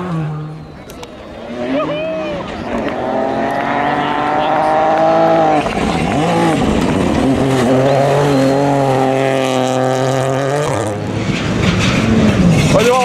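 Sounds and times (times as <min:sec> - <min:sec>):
distant rally car engine: 0:00.0 - 0:13.0
rally car engine at high revs: 0:00.0 - 0:13.0.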